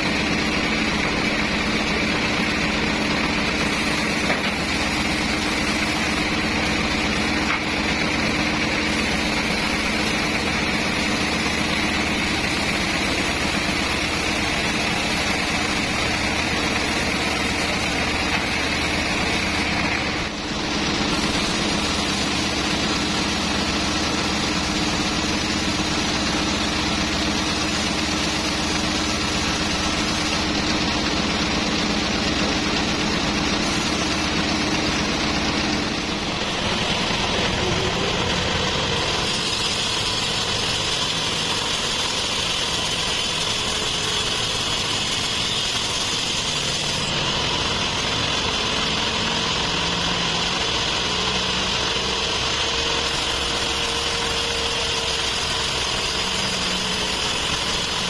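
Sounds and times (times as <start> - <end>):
band saw running: 0.0 - 58.0
saw blade cutting log: 0.0 - 58.0.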